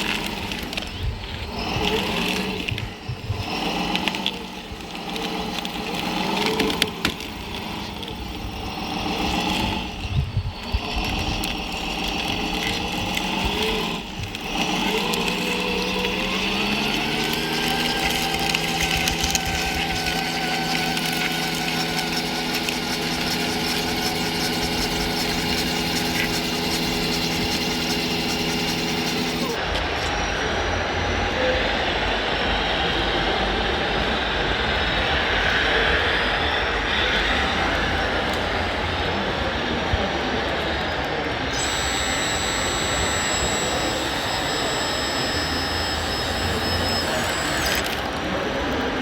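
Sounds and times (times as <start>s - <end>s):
model machinery motor whine: 0.0s - 32.6s, 34.9s - 49.0s.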